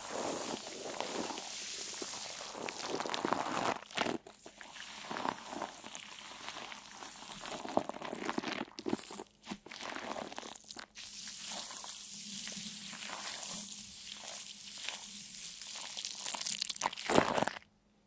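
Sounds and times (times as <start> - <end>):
crunching and crinkling: 0.0 - 11.0, 14.0 - 17.7.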